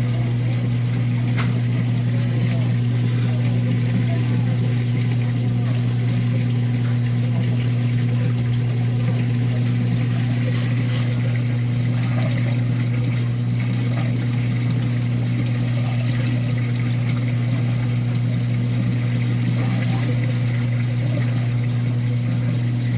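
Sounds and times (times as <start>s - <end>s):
loud low mechanical hum: 0.0s - 22.9s
water trickling: 0.0s - 22.9s.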